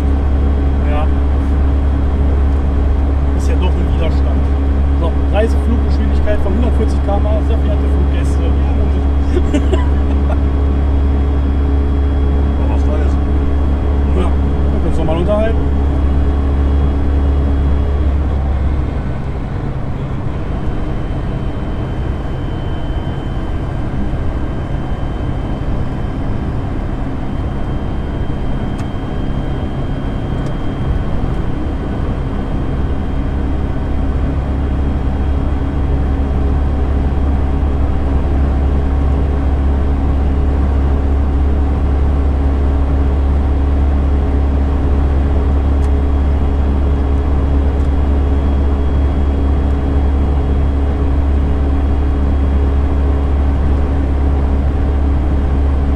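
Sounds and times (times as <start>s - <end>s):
car engine drone: 0.0s - 55.9s
gearbox whine: 0.0s - 55.9s
road and wind noise: 0.0s - 55.9s.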